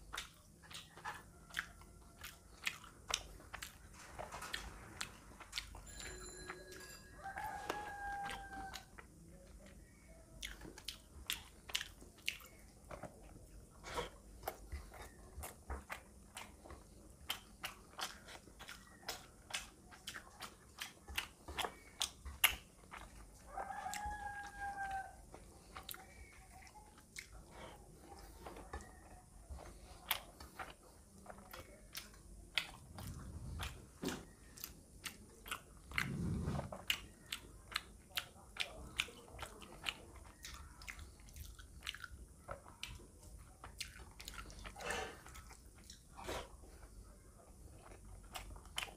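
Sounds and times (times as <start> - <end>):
wet chewing and lip smacks: 0.0 - 5.9, 7.2 - 48.9.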